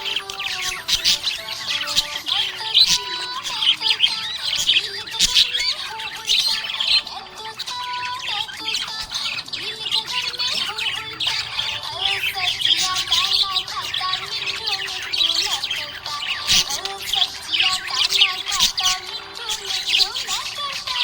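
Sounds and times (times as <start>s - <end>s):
budgerigars chirping: 0.0s - 21.0s.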